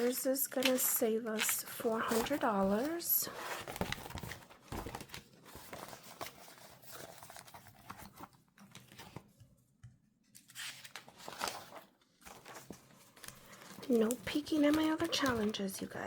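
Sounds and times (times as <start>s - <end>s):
paper money rustling: 0.0s - 8.3s, 10.4s - 16.0s.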